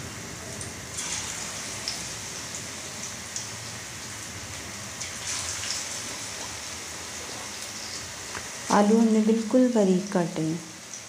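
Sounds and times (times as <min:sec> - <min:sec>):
batter sizzling in hot fat: 0:00.0 - 0:11.0.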